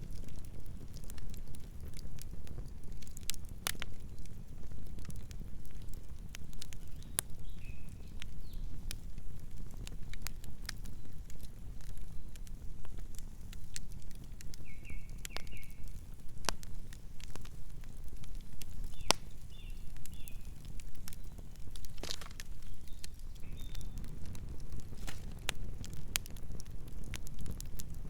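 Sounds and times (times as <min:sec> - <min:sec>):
campfire crackling and snapping: 0:00.0 - 0:28.0
fire rumbling: 0:00.0 - 0:28.0.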